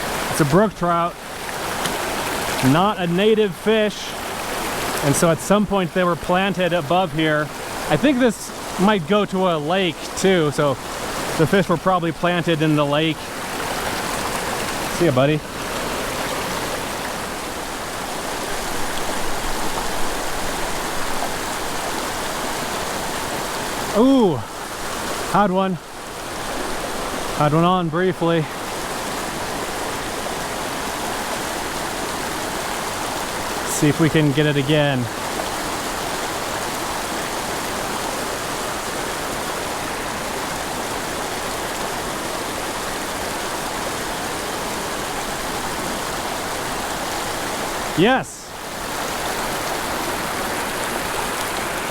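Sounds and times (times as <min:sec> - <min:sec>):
mountain creek rushing: 0:00.0 - 0:51.9.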